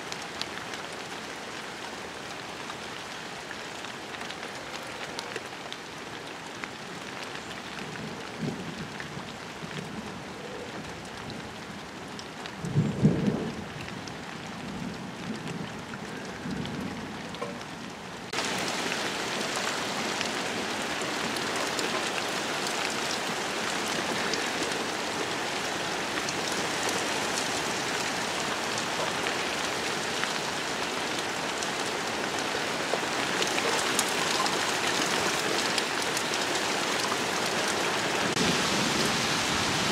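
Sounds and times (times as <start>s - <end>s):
rain falling on pond water: 0.0s - 39.9s.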